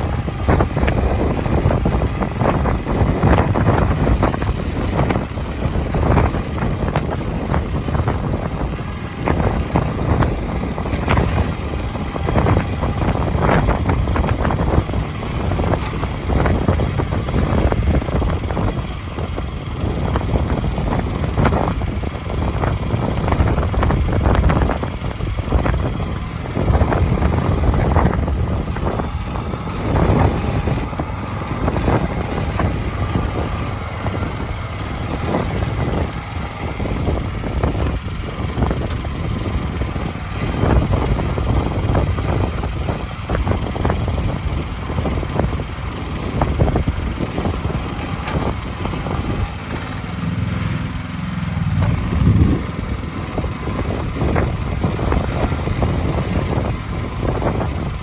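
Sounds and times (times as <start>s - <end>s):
small excavator engine running: 0.0s - 58.0s.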